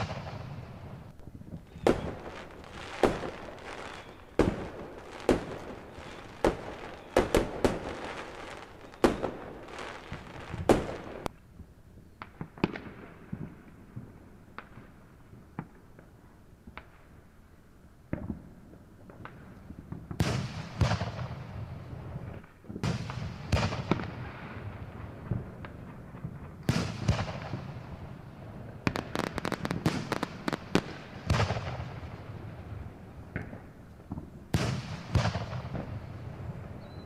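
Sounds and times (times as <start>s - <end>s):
fireworks bangs: 0.0s - 11.3s, 18.1s - 37.0s
crackling fireworks pops: 0.0s - 17.3s, 18.1s - 37.0s.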